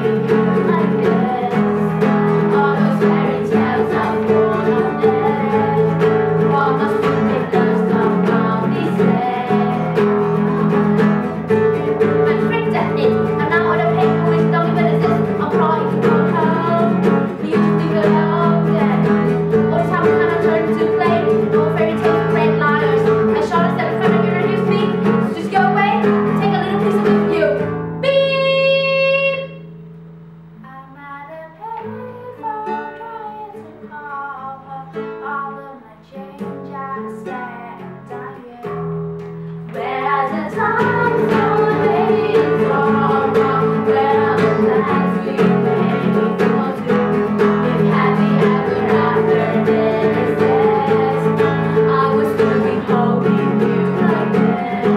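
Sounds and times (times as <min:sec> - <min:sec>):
girls singing a pop song: 0:00.0 - 0:29.5, 0:30.8 - 0:38.9, 0:39.6 - 0:54.9
acoustic guitar strumming: 0:00.0 - 0:54.9.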